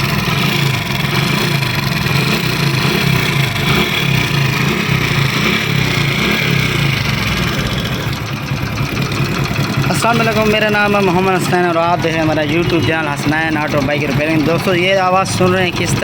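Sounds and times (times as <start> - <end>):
mechanical clatter inside engine: 0.0 - 16.0
motorcycle engine idling: 0.0 - 16.0.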